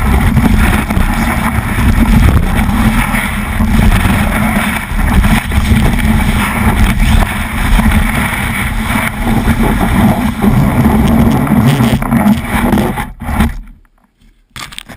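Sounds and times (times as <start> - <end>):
snowboard scraping over snow: 0.0 - 13.6
wind buffeting camera: 0.0 - 13.9.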